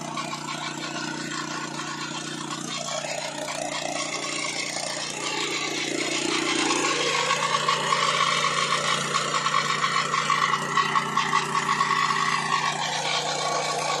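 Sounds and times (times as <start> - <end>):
pulsing high whine: 0.0 - 14.0
sawmill machinery humming: 0.0 - 14.0.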